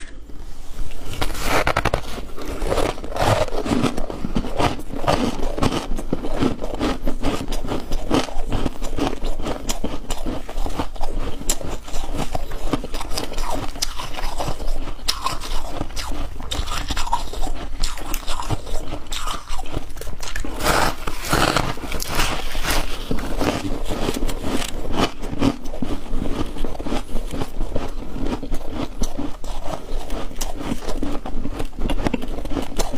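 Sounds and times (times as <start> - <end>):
person chewing ice: 0.9 - 32.9.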